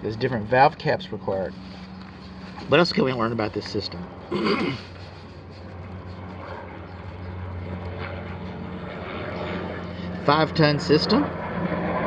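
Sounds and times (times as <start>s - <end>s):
low mechanical hum: 0.0s - 12.0s
noisy rush: 0.0s - 12.0s.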